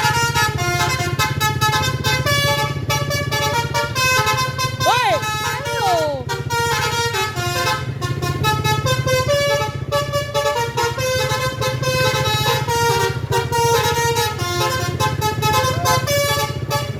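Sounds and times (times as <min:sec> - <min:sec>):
musical air horn tune: 0:00.0 - 0:16.9.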